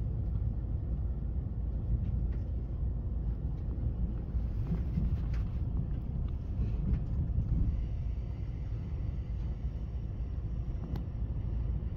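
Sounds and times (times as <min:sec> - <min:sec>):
train rumbling on rails: 0:00.0 - 0:11.9.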